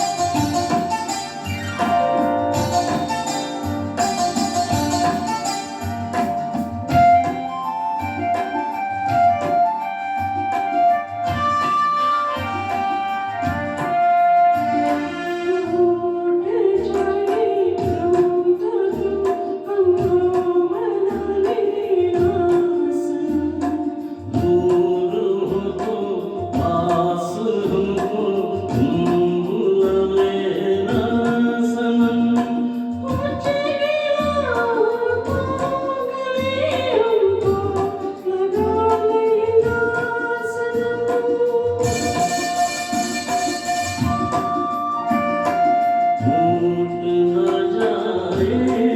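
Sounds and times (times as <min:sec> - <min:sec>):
electronic keyboard with bass line: 0:00.0 - 0:48.9
person singing wordless melody: 0:06.4 - 0:42.9, 0:44.7 - 0:48.9.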